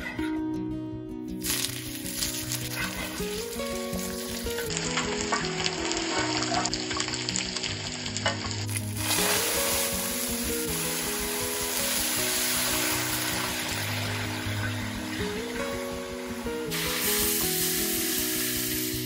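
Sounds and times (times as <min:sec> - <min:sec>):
vegetables sizzling in hot oil: 0:01.4 - 0:19.0.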